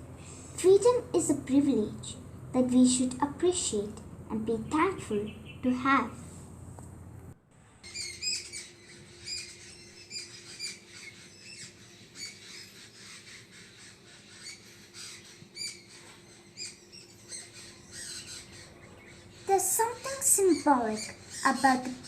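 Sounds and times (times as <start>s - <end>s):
birds chirping: 0.0s - 6.6s, 7.6s - 22.0s
faint steady hum: 0.0s - 22.0s.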